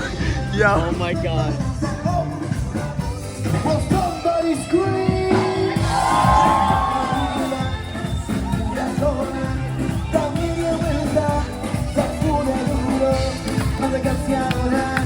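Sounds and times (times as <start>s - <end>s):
pop song with singer: 0.0s - 15.0s.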